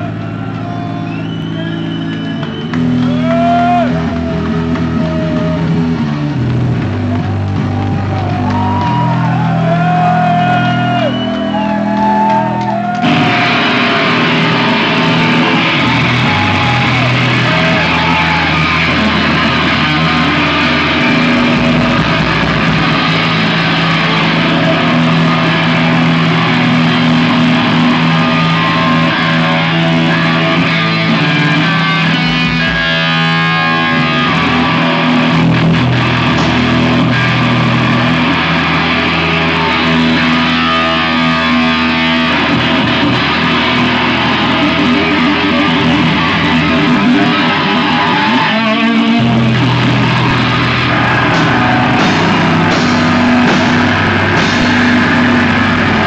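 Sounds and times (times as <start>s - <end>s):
punk band playing live: 0.0s - 56.0s.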